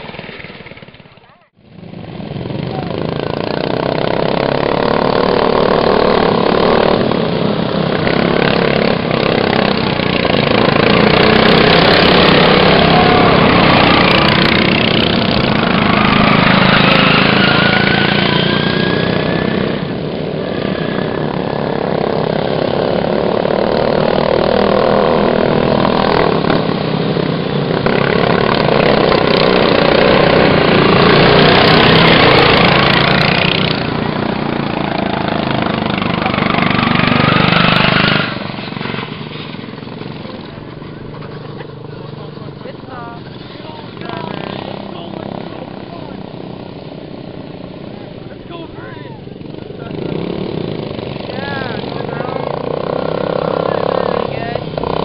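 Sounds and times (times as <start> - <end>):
racing lawn mower engines: 0.0 - 55.0
engine revving whine: 1.7 - 55.0.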